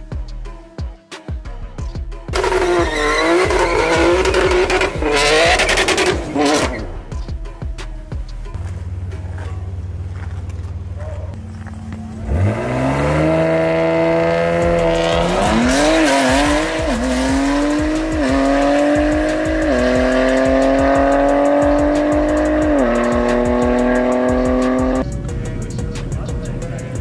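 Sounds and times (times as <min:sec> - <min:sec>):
car engine at full throttle: 0:02.4 - 0:07.2, 0:08.6 - 0:27.0.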